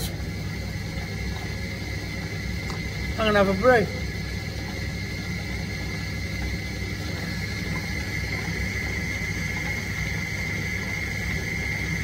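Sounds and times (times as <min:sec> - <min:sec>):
metal lathe humming and whining: 0:00.0 - 0:12.0.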